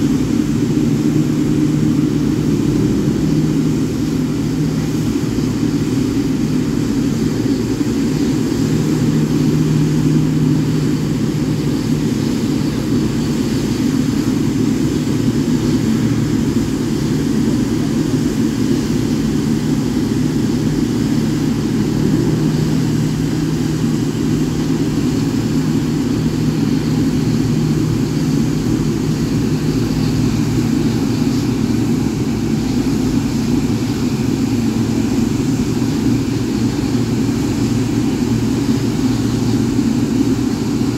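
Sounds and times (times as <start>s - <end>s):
faint engine hiss: 0.0s - 40.9s
jet engines droning: 0.0s - 40.9s.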